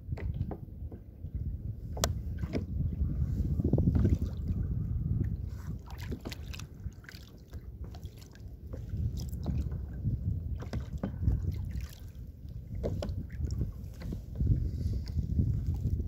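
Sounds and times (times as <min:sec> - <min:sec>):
water lapping against kayak hull: 0:00.0 - 0:16.0
wind noise on microphone: 0:00.0 - 0:16.0.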